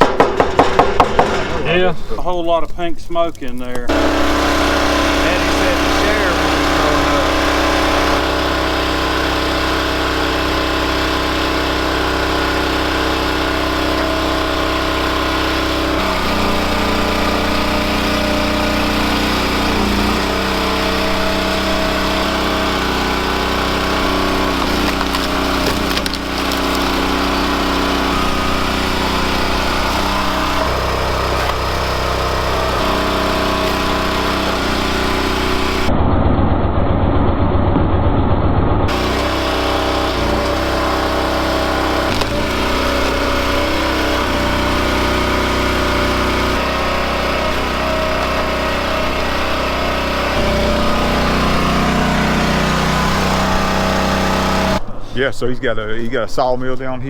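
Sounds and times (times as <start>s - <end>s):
log splitter engine running: 0.0s - 57.0s.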